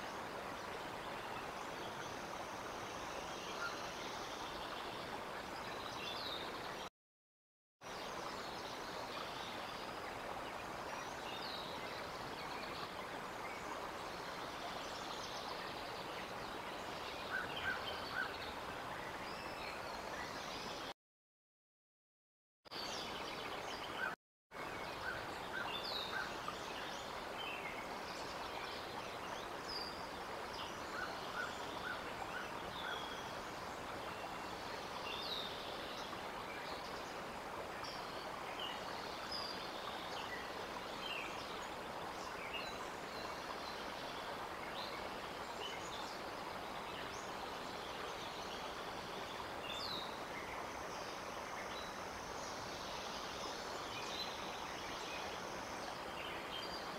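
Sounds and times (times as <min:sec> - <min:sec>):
outdoor background hiss: 0:00.0 - 0:06.9, 0:07.8 - 0:20.9, 0:22.8 - 0:56.9.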